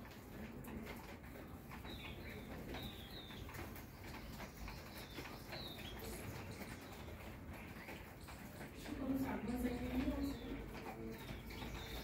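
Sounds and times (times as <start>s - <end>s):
faint clicks: 0.0s - 12.0s
small birds chirping: 0.0s - 12.0s.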